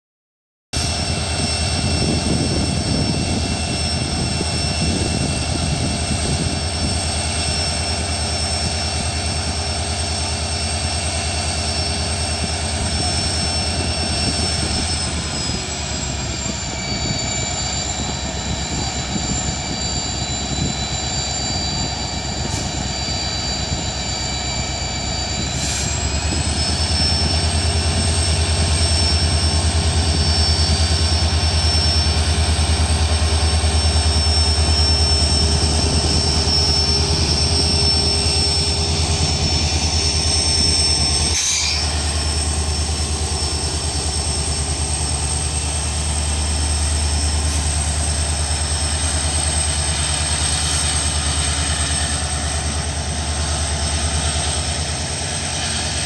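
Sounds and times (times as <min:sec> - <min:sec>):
high whine: 0:00.8 - 0:56.0
locomotive engine throbbing: 0:00.8 - 0:56.0.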